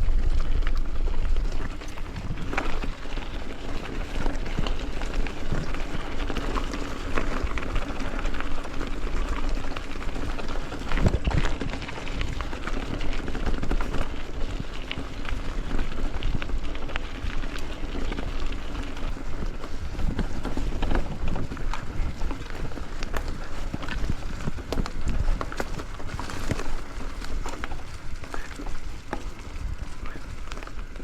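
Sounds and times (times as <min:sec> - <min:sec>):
bicycle clicks and rattles: 0:00.0 - 0:31.0
bicycle tyre rumble: 0:00.0 - 0:31.0.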